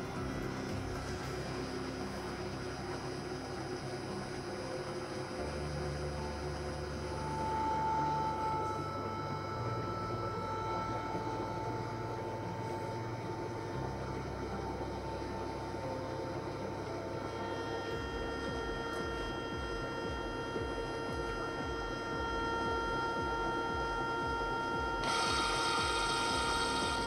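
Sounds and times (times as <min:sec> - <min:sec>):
thin steady whine: 0:00.0 - 0:27.0
welding machine electrical hum: 0:00.0 - 0:27.0.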